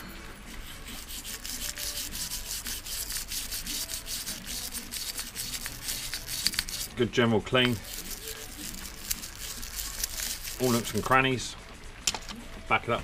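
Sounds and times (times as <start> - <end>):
wire brush scrubbing metal bowl: 0.0 - 11.4.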